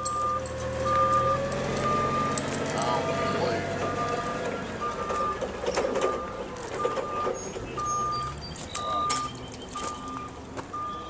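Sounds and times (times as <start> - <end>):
metal clanks: 0.0 - 10.4
backup alarm beeping: 0.0 - 11.0
truck engine running: 0.0 - 11.0.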